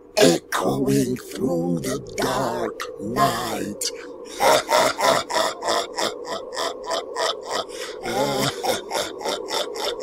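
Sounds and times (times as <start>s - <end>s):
steady low hum: 0.0s - 10.0s
rhythmic throaty pulses: 0.2s - 10.0s.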